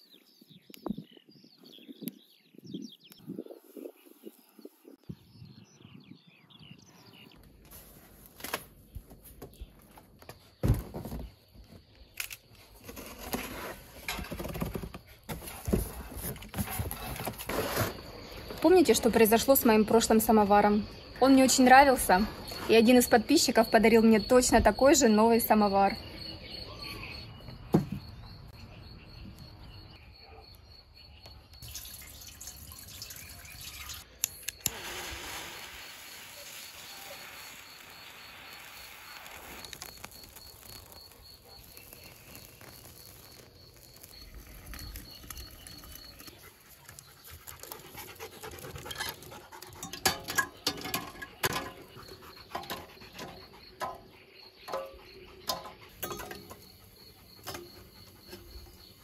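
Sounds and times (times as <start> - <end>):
crickets chirping: 3.2 - 59.0.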